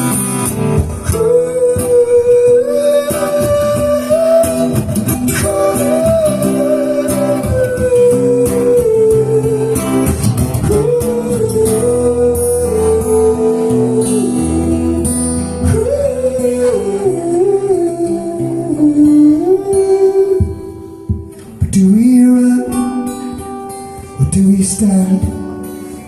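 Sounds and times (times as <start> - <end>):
strummed acoustic guitar: 0.0 - 26.0
wordless vocal melody: 0.0 - 26.0.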